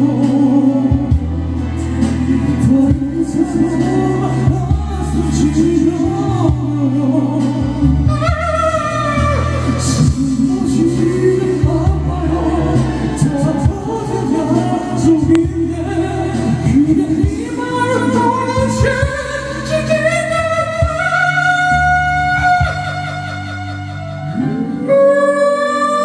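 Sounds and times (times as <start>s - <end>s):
backing track with steady bass: 0.0s - 26.0s
person singing: 0.0s - 26.0s.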